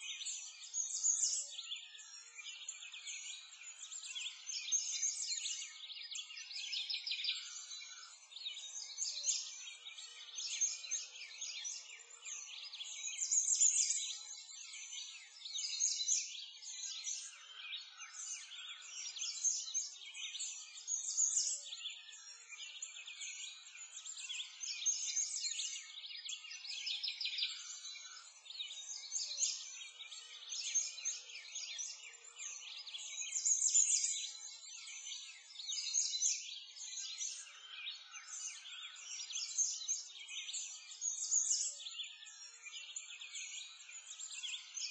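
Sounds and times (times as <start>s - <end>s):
small birds chirping and twittering: 0.0s - 44.9s.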